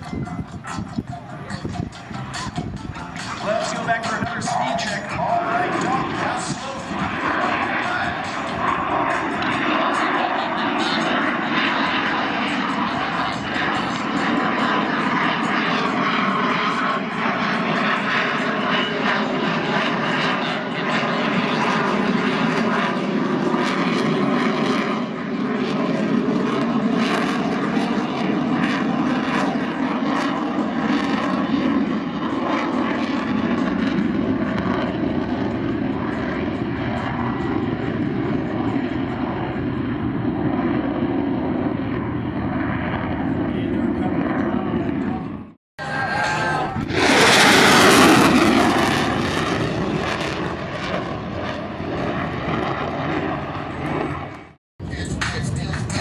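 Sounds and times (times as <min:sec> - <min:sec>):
airplane engine droning: 0:00.0 - 0:56.0.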